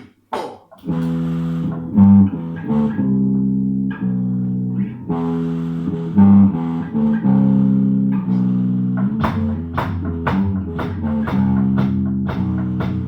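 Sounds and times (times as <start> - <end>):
raspy amplified guitar riff: 0.8 - 13.0.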